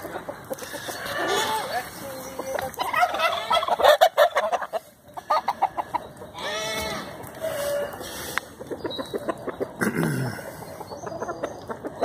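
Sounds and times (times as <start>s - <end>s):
chickens clucking: 0.0s - 12.0s
turkey gobbling: 0.0s - 12.0s.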